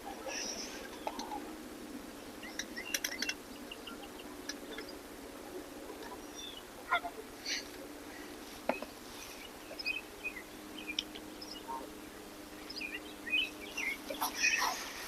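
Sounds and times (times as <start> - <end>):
birds chirping: 0.0 - 15.0
faint steady hum: 0.0 - 15.0.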